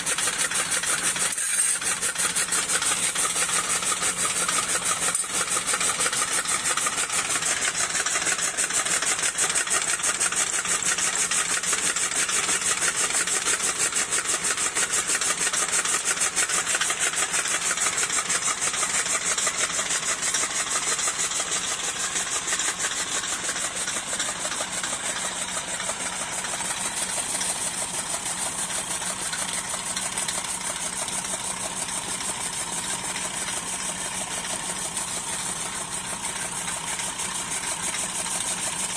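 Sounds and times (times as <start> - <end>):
cutter blades chopping fodder: 0.0 - 38.9
tractor diesel engine running: 0.0 - 38.9.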